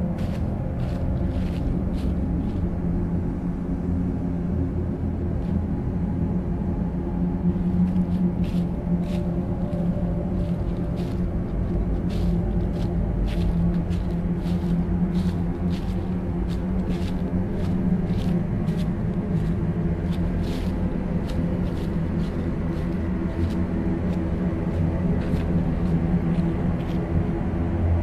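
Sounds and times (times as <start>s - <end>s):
dark ambient drone: 0.0s - 28.0s
crackling rustles: 0.1s - 2.8s, 7.7s - 27.6s.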